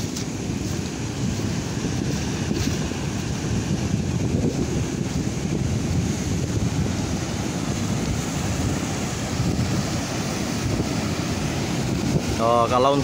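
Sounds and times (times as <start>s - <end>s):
sea waves breaking on shore: 0.0s - 13.0s
wind buffeting microphone: 0.0s - 13.0s.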